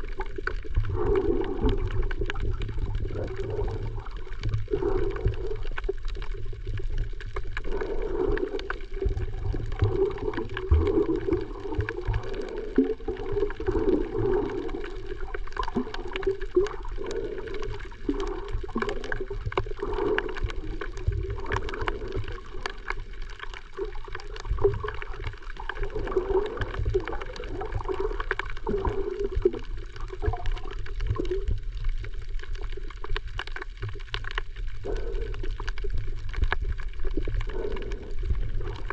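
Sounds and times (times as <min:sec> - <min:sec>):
muffled water sloshing and gurgling: 0:00.0 - 0:38.9.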